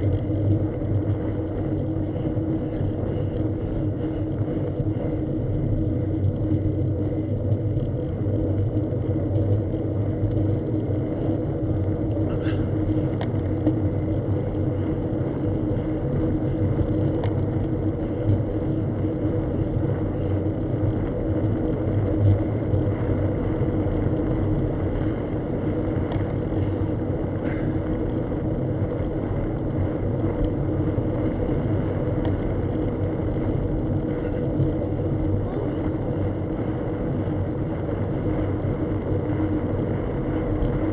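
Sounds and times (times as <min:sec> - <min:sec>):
vehicle motor hum and road rumble: 0:00.0 - 0:40.9.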